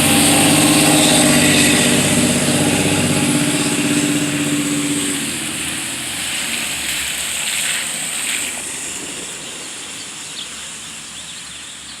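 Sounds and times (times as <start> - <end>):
vehicle passing with tyre noise: 0.0 - 12.0.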